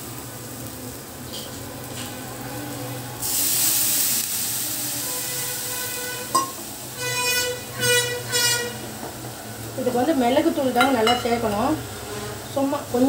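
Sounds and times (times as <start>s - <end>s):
loud sizzling hiss: 0.0s - 13.0s.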